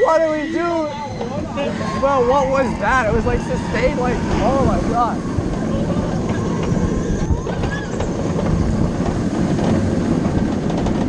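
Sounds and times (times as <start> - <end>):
roller coaster rumbling on track: 0.0 - 11.0.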